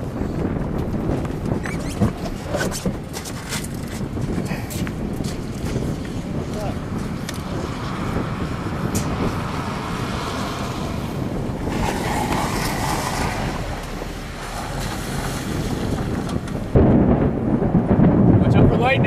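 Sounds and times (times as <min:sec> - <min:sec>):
thunder rumble: 0:00.0 - 0:19.0
wind buffeting microphone: 0:00.0 - 0:19.0.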